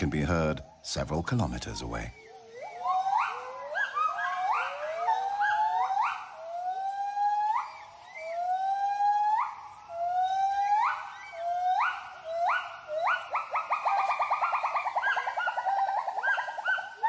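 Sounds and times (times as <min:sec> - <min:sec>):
gibbon hooting call: 0:02.2 - 0:17.0.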